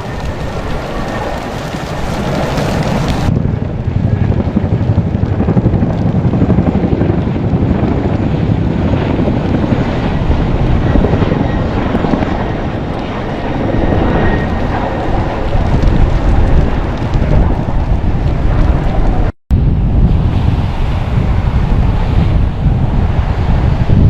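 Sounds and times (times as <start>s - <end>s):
helicopter rotor and engine rumble: 0.0s - 20.0s.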